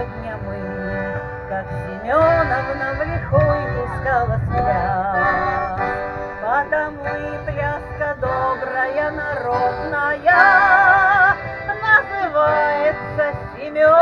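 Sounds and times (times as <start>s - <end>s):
song over loudspeakers: 0.0s - 14.0s.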